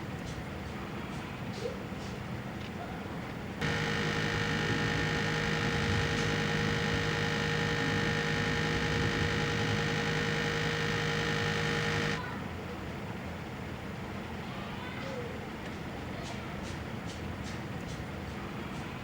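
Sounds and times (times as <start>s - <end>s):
air-conditioner unit humming: 0.0s - 19.0s.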